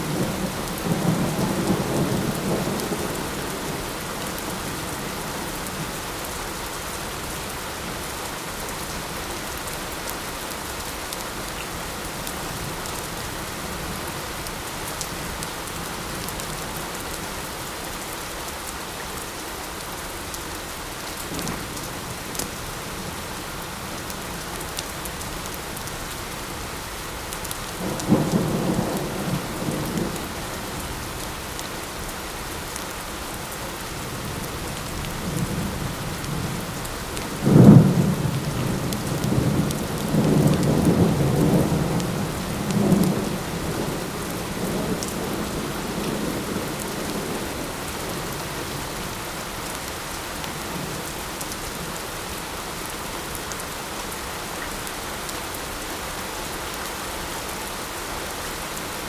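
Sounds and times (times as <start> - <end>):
light rain: 0.0 - 59.0.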